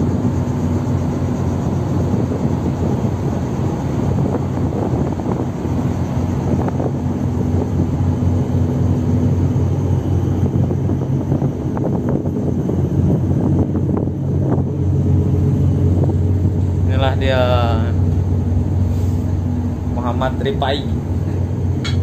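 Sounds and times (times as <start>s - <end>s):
ship diesel engines humming: 0.0s - 22.0s
wind noise on microphone: 0.0s - 22.0s.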